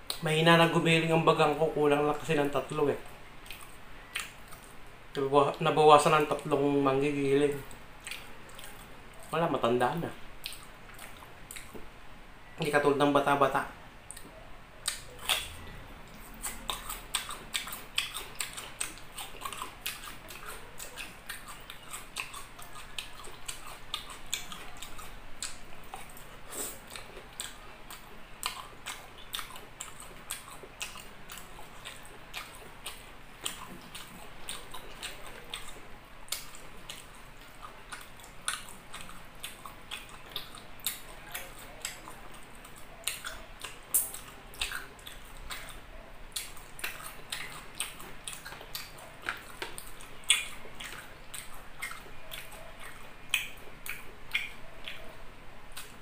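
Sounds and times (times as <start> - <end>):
wet chewing clicks and smacks: 0.0 - 11.9, 12.6 - 56.0.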